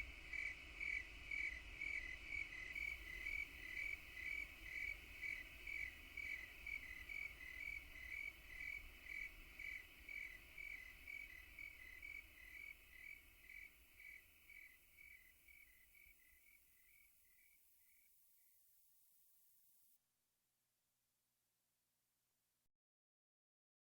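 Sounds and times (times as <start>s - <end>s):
cricket chirping: 0.0s - 19.9s.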